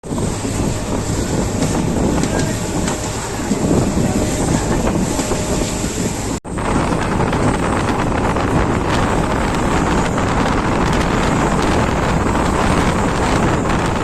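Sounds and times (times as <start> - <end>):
train wheels rumbling on rails: 0.0 - 14.0
wind noise on microphone: 0.0 - 14.0.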